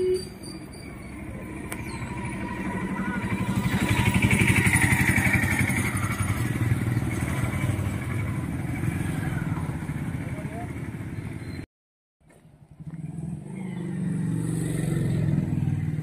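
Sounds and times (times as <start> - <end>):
vehicle engine passing by: 1.3 - 11.4, 12.7 - 16.0.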